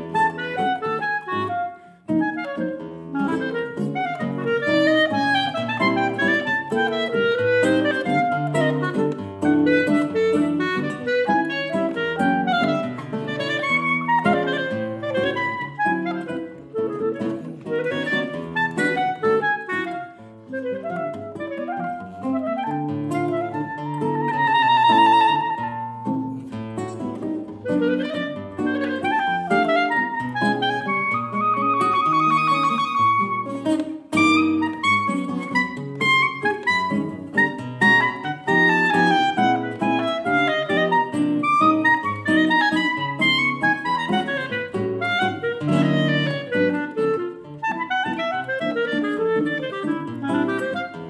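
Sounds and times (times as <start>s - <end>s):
clarinet melody: 0.0s - 51.0s
classical guitar accompaniment: 0.0s - 51.0s.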